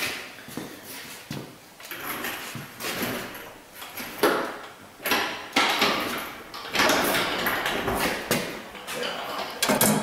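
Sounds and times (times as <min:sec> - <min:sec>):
metallic clanks and knocks: 0:01.9 - 0:10.0.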